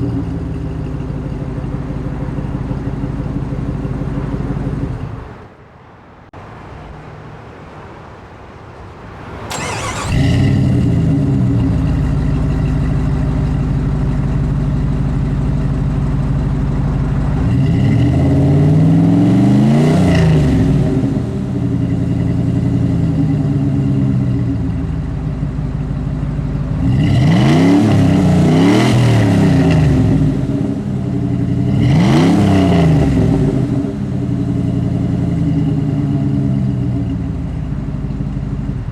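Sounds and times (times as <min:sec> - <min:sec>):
engine idling and revving: 0:00.0 - 0:05.6, 0:09.2 - 0:38.9.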